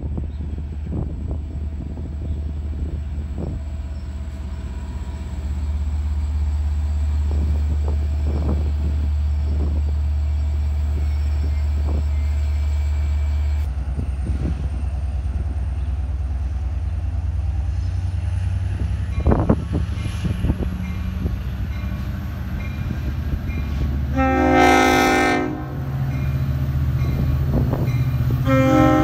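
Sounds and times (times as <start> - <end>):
diesel locomotive passing: 0.0 - 29.0.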